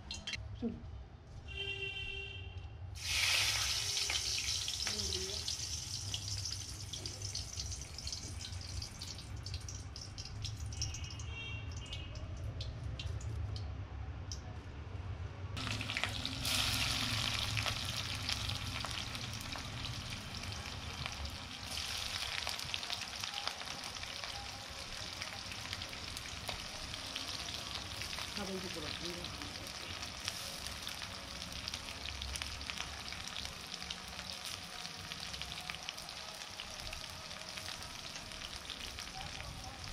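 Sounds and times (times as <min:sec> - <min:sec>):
hot oil sizzling and crackling: 0:03.0 - 0:13.6, 0:15.6 - 0:39.9.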